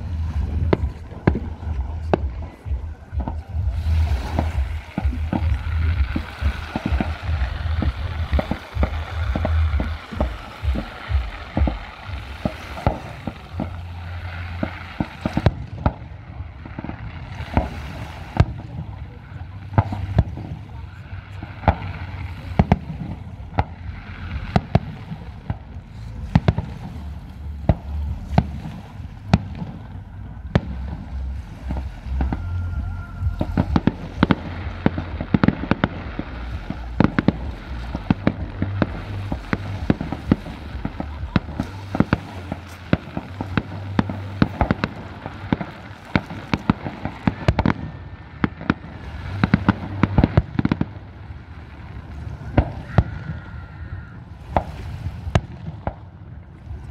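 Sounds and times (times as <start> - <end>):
low rumble of booms: 0.0 - 56.9.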